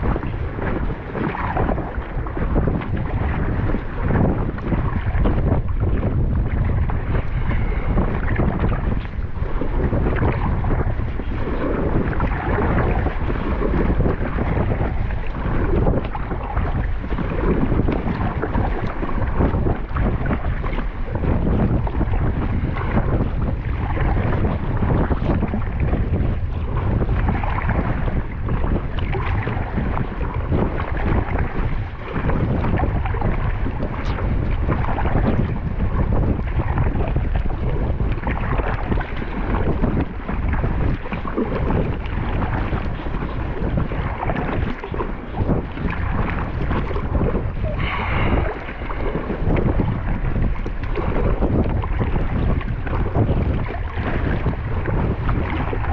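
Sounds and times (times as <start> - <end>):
strong wind on microphone: 0.0 - 55.9
water splashing against kayak: 0.0 - 55.9.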